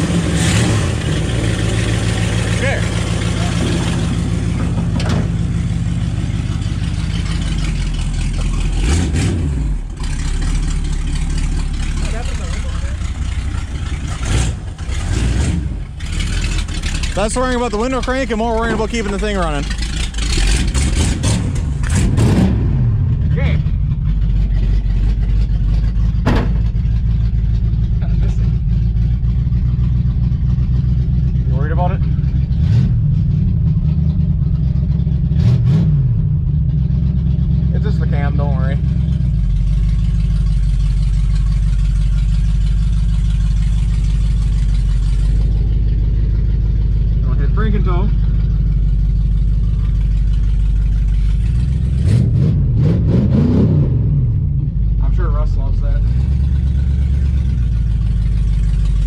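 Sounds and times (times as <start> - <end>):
car engine idling: 0.0 - 53.4, 54.1 - 59.0.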